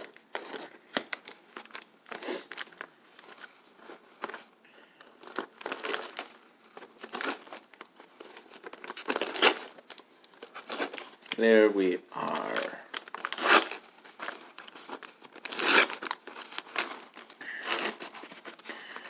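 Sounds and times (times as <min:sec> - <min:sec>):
popcorn bag crinkling: 0:00.0 - 0:19.0.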